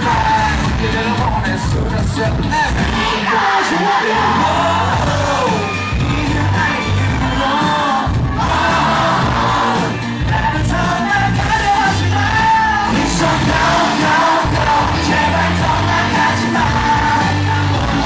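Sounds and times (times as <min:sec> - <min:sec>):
bass guitar: 0:00.0 - 0:03.1, 0:04.2 - 0:18.0
drums: 0:00.0 - 0:18.0
man singing: 0:00.0 - 0:18.0.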